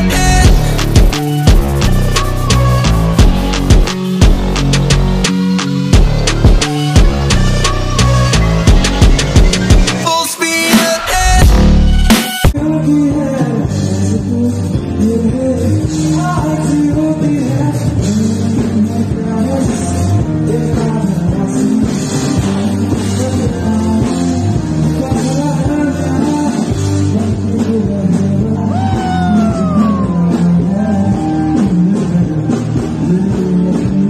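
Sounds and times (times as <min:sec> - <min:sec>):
rock band music: 0:00.0 - 0:34.0.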